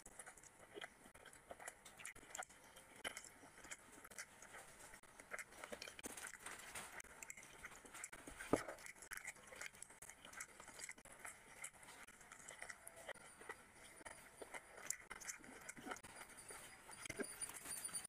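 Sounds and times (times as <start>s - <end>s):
cooked meat tearing and crackling: 0.0s - 16.4s.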